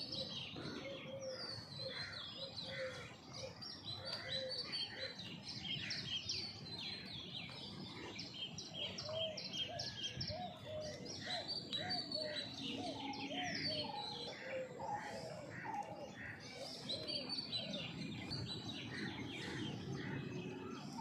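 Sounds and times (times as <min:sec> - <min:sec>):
birds chirping high: 0:00.0 - 0:21.0.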